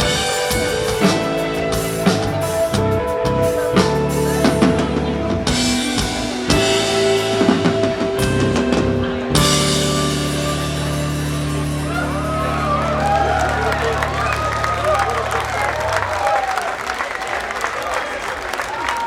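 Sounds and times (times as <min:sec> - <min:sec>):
guitar chord ringing: 0:00.0 - 0:15.8
rock band playing: 0:00.0 - 0:16.5.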